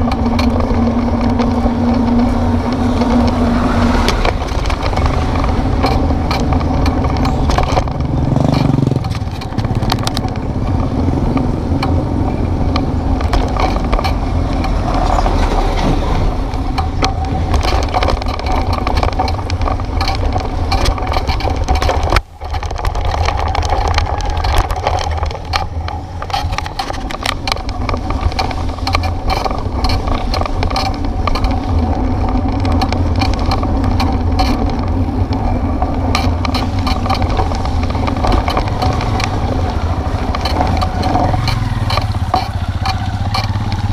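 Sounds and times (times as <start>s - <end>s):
small rattles and knocks: 0.0s - 43.9s
wind and riding rumble: 0.0s - 43.9s.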